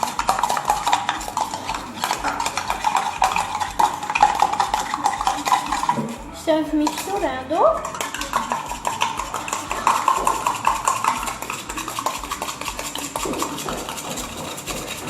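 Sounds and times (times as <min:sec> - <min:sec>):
clicking and scraping on container: 0:00.0 - 0:06.2, 0:06.8 - 0:15.0
utensil stirring slime: 0:00.0 - 0:15.0.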